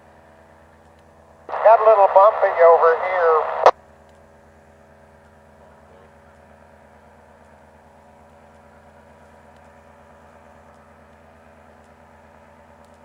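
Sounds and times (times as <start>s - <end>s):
faint engine drone: 0.0s - 13.0s.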